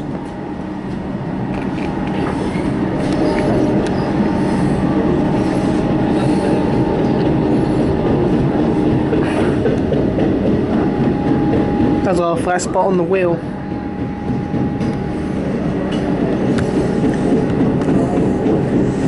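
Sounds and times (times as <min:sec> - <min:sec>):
train wheels rattling on rail: 0:00.0 - 0:19.0.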